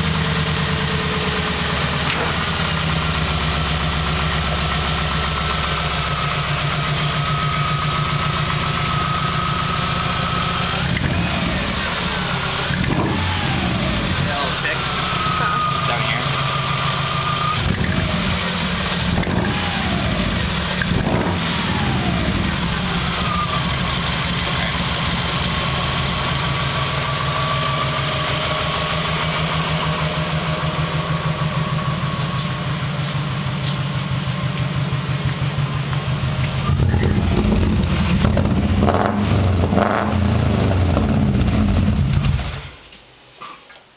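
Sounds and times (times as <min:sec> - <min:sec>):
car engine idling: 0:00.0 - 0:42.8.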